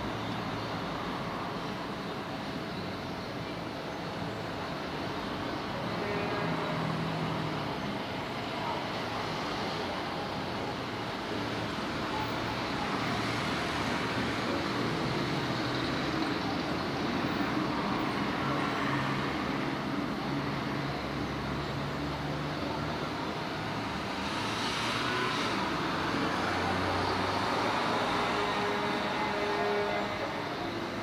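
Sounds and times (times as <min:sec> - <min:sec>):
passing motor vehicles: 0:00.0 - 0:31.0.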